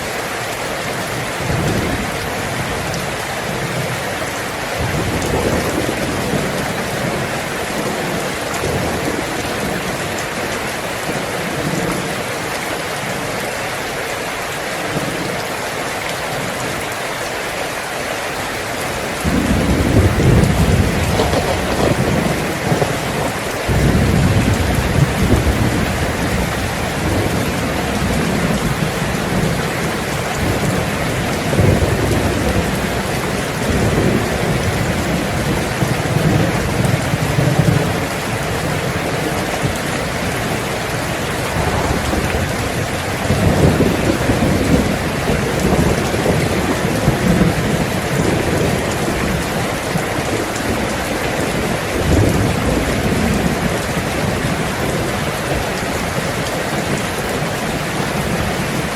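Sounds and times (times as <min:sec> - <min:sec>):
heavy rain on a tin roof: 0:00.0 - 0:58.9
low thunder rumbling: 0:04.8 - 0:12.3, 0:19.0 - 0:58.9.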